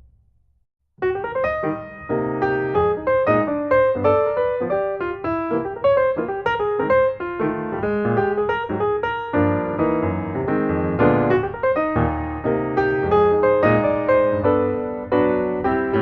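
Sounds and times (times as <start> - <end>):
piano music: 1.0 - 16.0.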